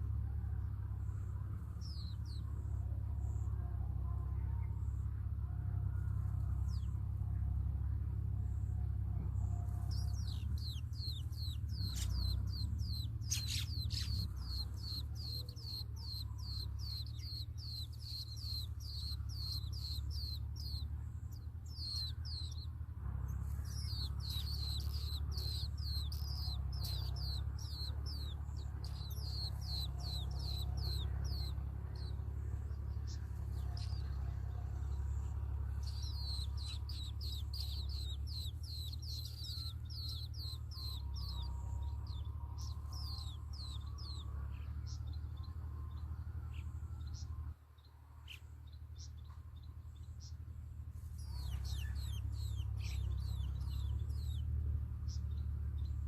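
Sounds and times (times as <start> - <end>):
nestling birds begging chirps: 0.0 - 56.0
steady low hum: 0.0 - 56.0.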